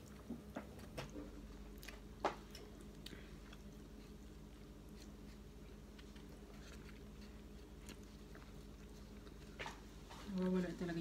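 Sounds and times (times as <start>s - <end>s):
person chewing: 0.0s - 10.3s.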